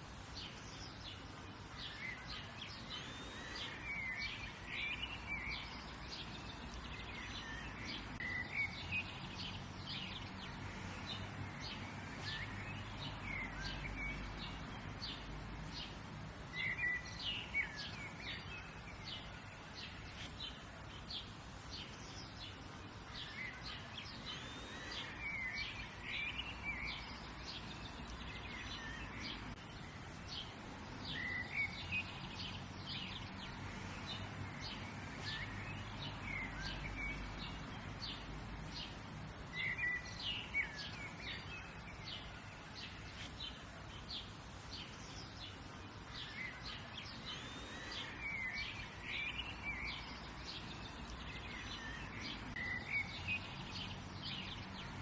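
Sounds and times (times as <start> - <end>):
birds chirping: 0.0 - 55.0
low background hiss: 0.0 - 55.0.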